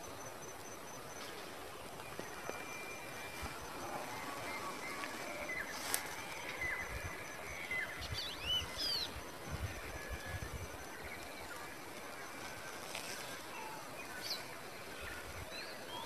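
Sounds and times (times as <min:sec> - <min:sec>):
bird chirps: 0:00.0 - 0:16.0
faint steady hiss: 0:00.0 - 0:16.0.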